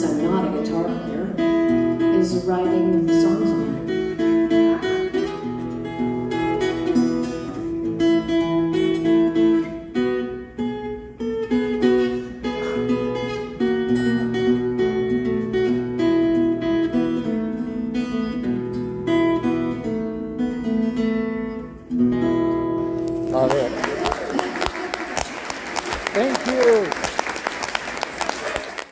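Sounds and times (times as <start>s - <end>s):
tenor guitar strummed and picked: 0.0s - 24.8s.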